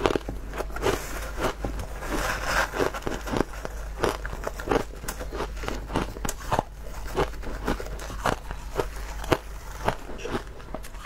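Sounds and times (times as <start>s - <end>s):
crushed ice crunching in mouth: 0.0s - 11.0s.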